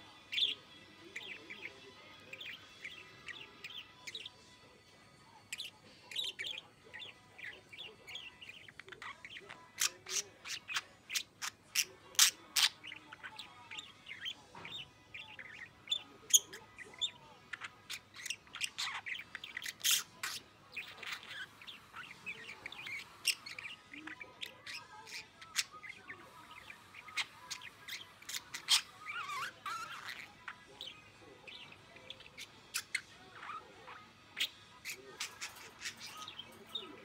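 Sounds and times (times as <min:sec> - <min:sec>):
budgerigar chattering and warbling: 0:00.3 - 0:04.5, 0:05.5 - 0:37.0.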